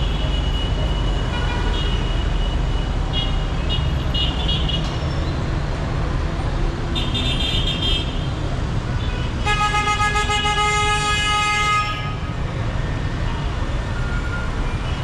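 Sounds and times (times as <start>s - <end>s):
city traffic rumbling: 0.0s - 15.0s.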